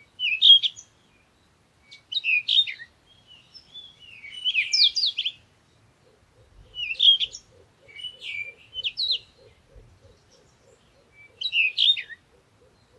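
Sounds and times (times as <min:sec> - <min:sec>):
songbird chirping: 0:00.0 - 0:12.9.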